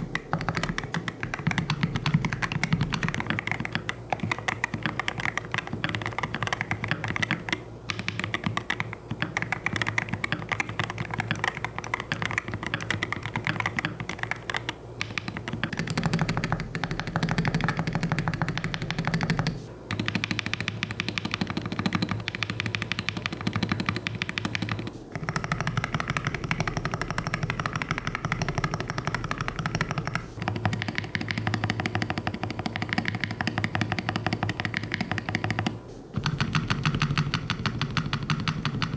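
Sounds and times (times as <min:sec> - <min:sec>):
keyboard typing clacks: 0:00.0 - 0:38.9.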